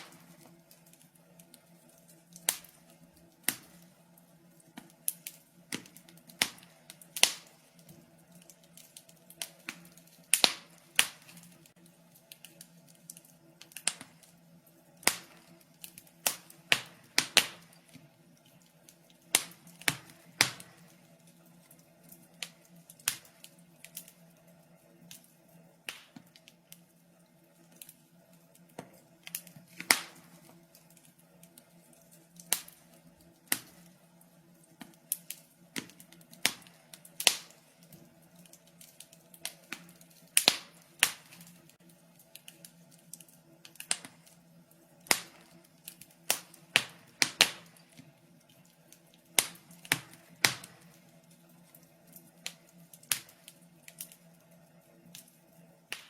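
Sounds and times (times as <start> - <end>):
faint steady hum: 0.0 - 56.0
wood fire popping and snapping: 0.0 - 56.0.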